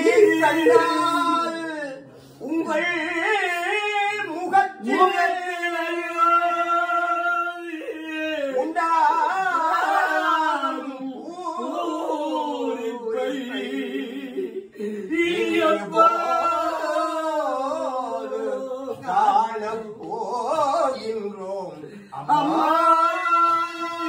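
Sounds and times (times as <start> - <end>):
woman singing wailing lament: 0.0 - 19.4, 22.3 - 24.0.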